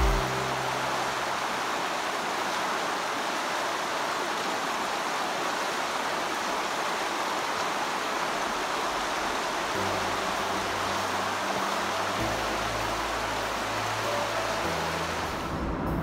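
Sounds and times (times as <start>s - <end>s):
stream rushing over rocks: 0.0s - 15.8s.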